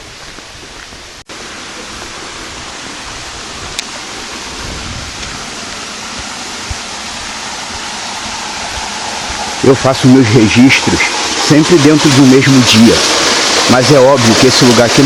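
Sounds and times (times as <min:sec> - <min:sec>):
forest stream rushing: 0:00.0 - 0:15.0.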